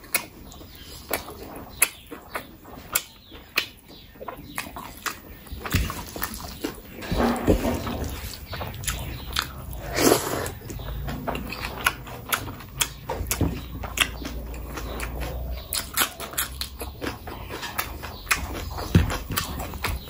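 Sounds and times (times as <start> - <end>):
wet chewing and mouth smacks: 0.0 - 20.0.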